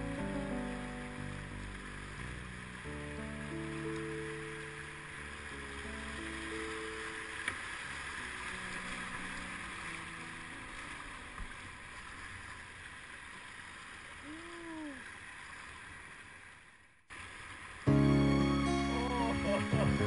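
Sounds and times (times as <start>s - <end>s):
river water rushing over rocks: 0.0s - 17.9s.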